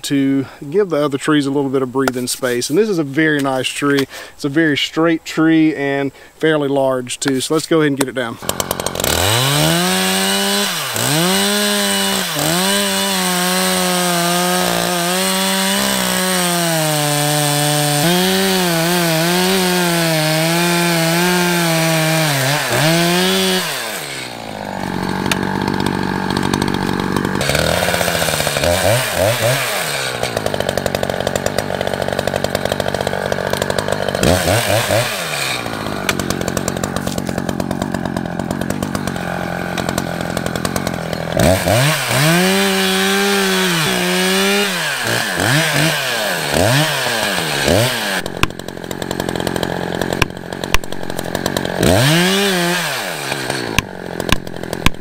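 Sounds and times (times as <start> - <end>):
chainsaw cutting wood: 8.0 - 55.0.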